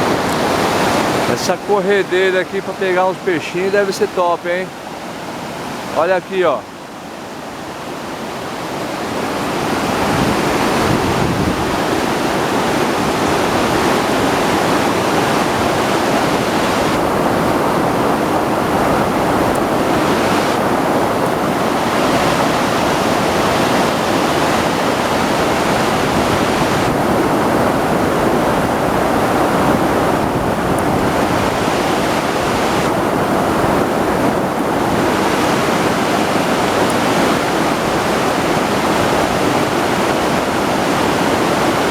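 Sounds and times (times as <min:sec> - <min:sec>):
river rapids roaring: 0:00.0 - 0:41.9.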